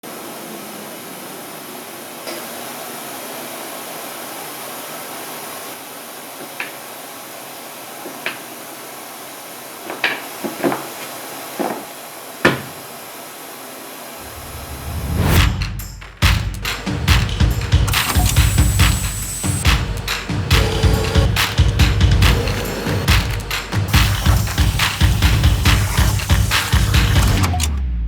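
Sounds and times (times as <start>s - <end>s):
steady hiss: 0.1s - 27.4s.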